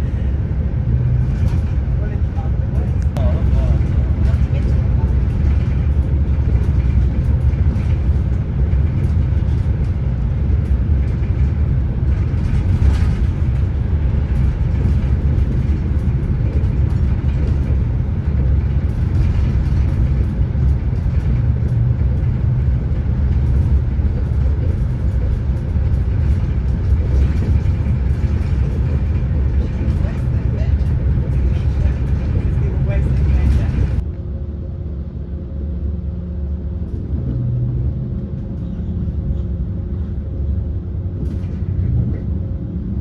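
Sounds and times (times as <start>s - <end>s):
train rumble inside carriage: 0.0s - 43.0s.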